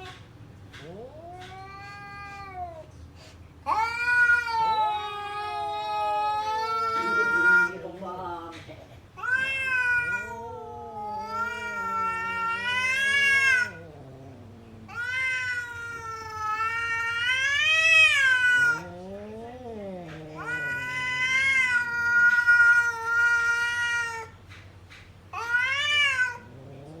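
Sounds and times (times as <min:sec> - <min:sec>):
cat yowling: 0:00.0 - 0:02.8, 0:03.7 - 0:07.8, 0:09.2 - 0:24.4, 0:25.3 - 0:27.0.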